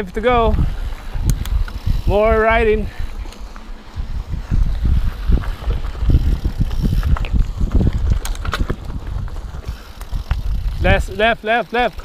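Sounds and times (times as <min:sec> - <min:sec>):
wind on microphone: 0:00.0 - 0:11.4
bike knocking and rattling: 0:00.0 - 0:12.0.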